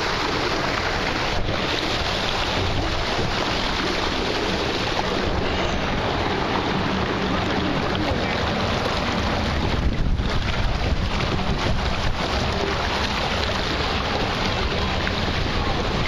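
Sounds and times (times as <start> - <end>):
water rushing down slide chute: 0.0 - 16.0
wind buffeting microphone: 0.0 - 16.0.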